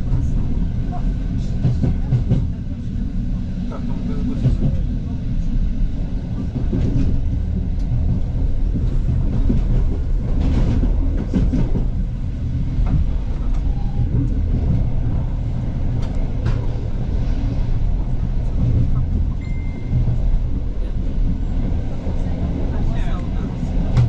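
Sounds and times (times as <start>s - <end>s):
train rumbling along track: 0.0s - 24.0s.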